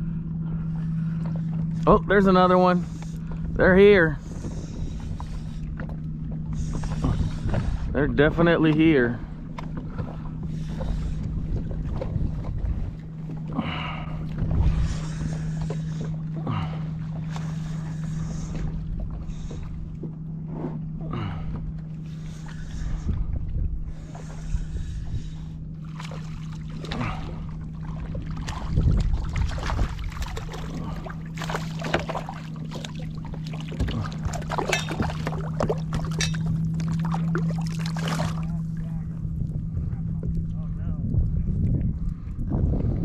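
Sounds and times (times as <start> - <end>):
steady low hum: 0.0 - 43.0
water against a hull: 0.0 - 43.0.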